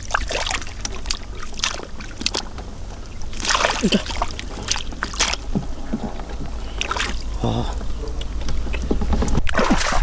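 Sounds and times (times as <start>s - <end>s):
steady low rumble: 0.0s - 9.5s
shallow water splashing: 0.0s - 10.0s.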